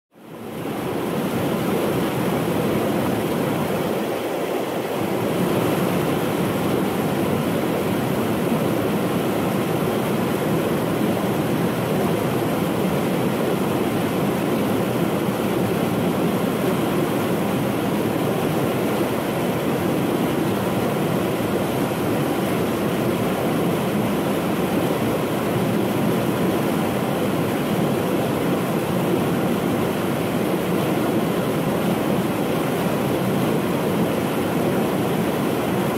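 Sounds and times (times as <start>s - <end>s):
water rushing over rocks: 0.3s - 35.9s.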